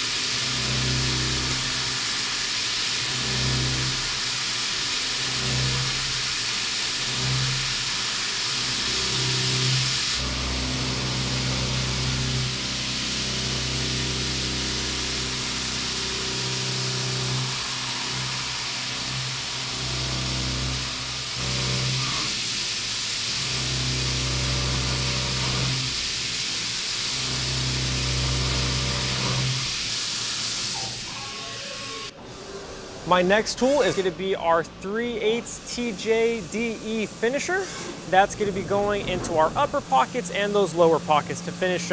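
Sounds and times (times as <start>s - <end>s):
coolant spray hissing: 0.0s - 31.2s, 33.1s - 41.9s
milling machine motor hum: 0.0s - 41.9s.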